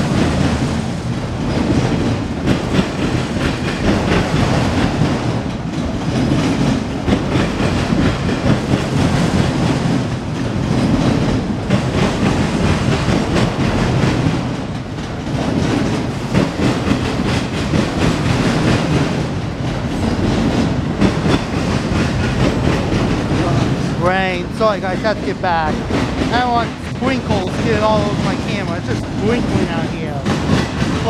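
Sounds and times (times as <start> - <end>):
freight car wheels rumbling: 0.0 - 31.0
wheels clicking over rail joints: 0.0 - 31.0.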